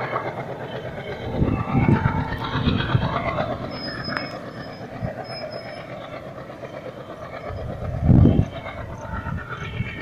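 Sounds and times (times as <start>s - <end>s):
distant train wheels rumbling: 0.0s - 10.0s.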